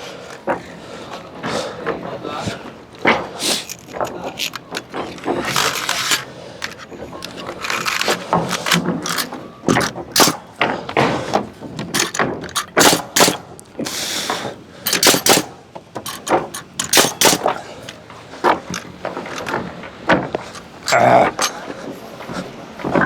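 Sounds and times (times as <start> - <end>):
nails driven into timber: 3.0 - 21.6.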